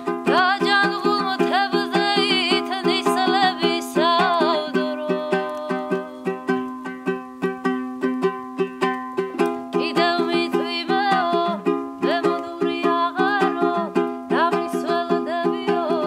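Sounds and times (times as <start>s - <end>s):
woman singing: 0.0s - 6.7s, 9.4s - 16.0s.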